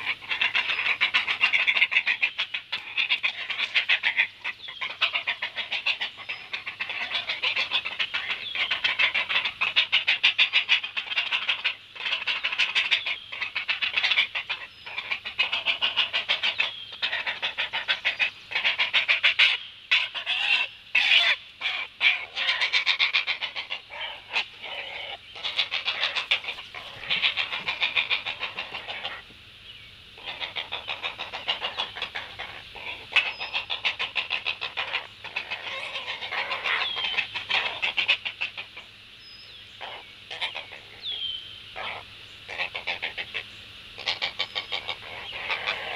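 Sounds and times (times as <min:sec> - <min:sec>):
heron chicks clacking begging calls: 0:00.0 - 0:29.2, 0:30.2 - 0:38.9, 0:39.8 - 0:45.9.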